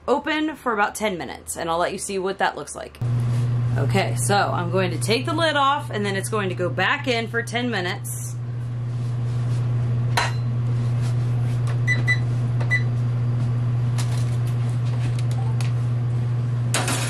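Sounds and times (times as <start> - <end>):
oven humming: 3.0 - 17.0.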